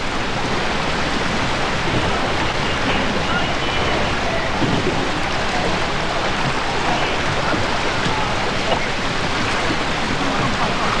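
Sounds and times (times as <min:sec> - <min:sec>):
canoe paddles splashing: 0:00.0 - 0:11.0
indistinct voices calling: 0:01.8 - 0:11.0.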